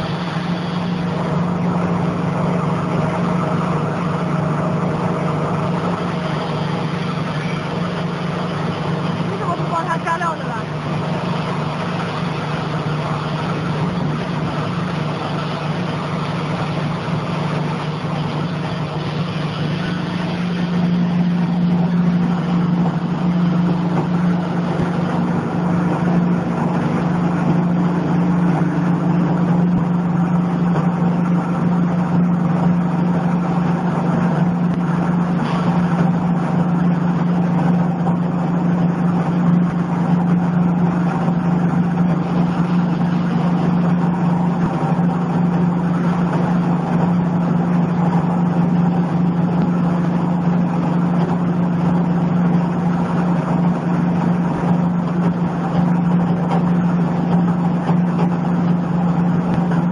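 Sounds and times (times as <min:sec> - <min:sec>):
machine motor humming and churning: 0:00.0 - 0:59.9.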